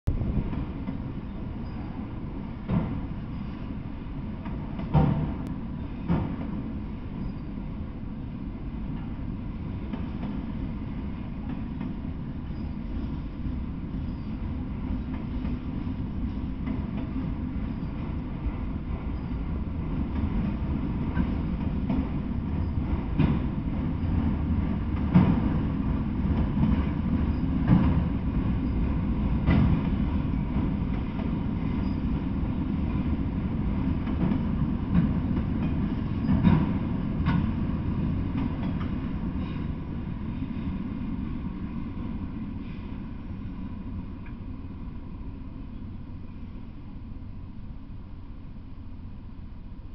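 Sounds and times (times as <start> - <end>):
train cars clanking: 0.1 - 7.7, 8.6 - 44.6
train wheels rumbling on rail: 0.1 - 49.9.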